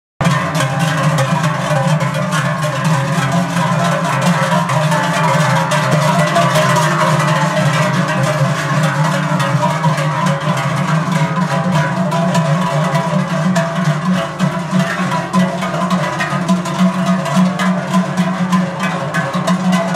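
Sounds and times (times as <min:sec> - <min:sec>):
cowbells clanging: 0:00.2 - 0:19.9.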